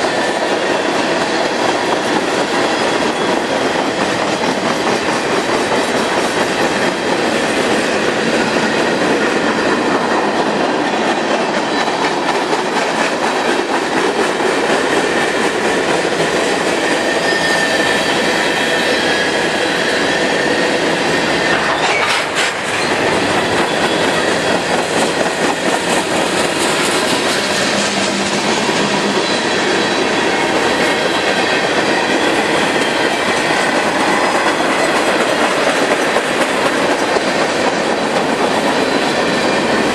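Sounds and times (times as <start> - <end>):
steel wheels rolling on track: 0.0 - 39.9.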